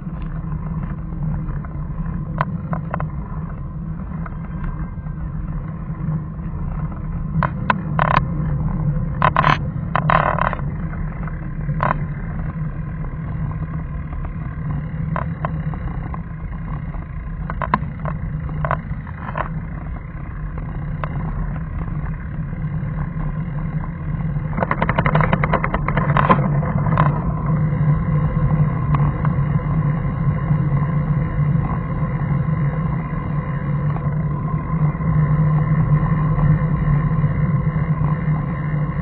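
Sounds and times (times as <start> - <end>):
vehicle low drone: 0.0 - 39.0.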